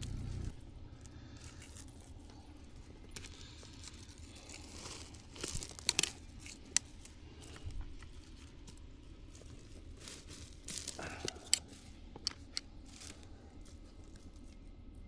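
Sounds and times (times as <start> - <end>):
weeds and branches rustling: 0.0 - 14.6.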